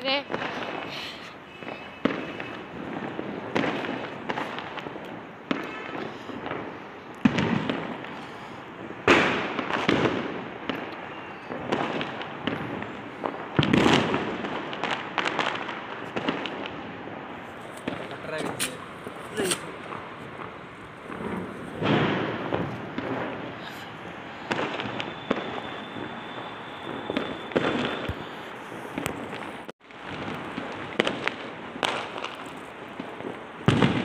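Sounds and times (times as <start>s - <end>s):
firecrackers banging and crackling: 0.0s - 34.0s.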